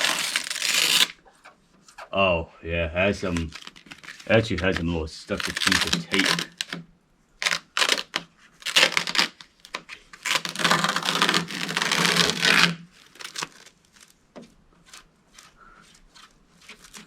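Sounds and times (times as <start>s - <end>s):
packing material scraping: 0.0s - 1.4s, 3.0s - 6.8s, 7.4s - 14.2s, 14.8s - 17.0s.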